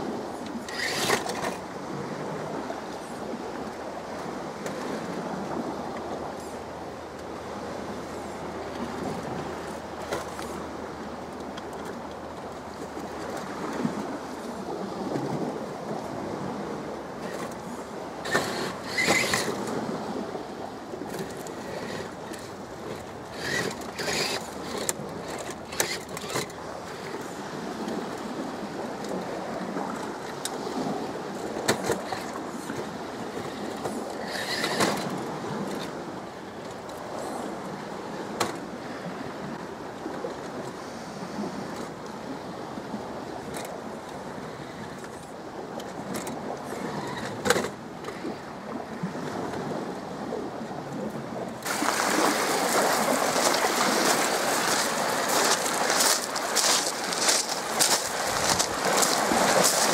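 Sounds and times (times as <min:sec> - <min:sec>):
lake waves: 0:00.0 - 0:59.9.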